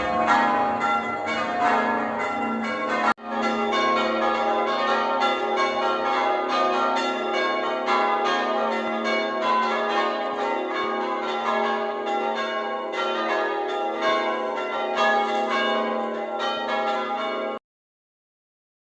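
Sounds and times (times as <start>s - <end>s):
church bells ringing: 0.0s - 17.6s.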